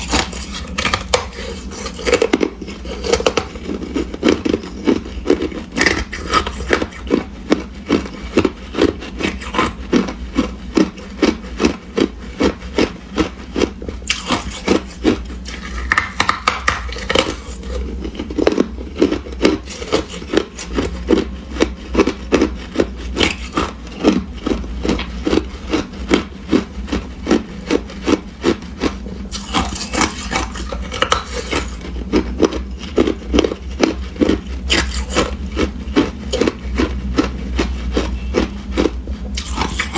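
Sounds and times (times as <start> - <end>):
hard ice being chewed: 0.0 - 39.9.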